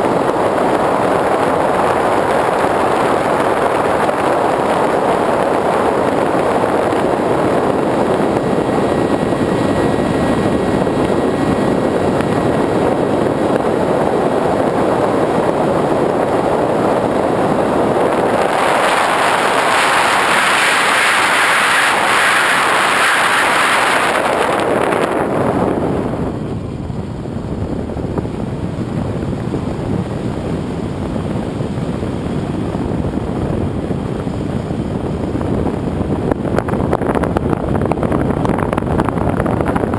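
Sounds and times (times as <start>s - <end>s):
model airplane motor and propeller: 0.0s - 39.9s.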